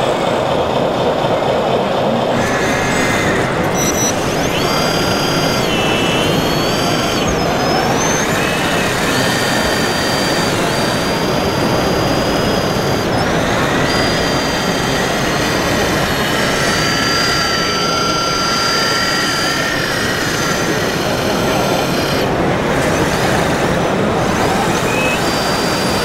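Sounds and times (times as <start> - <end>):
small electric motors whining: 2.2 - 26.0.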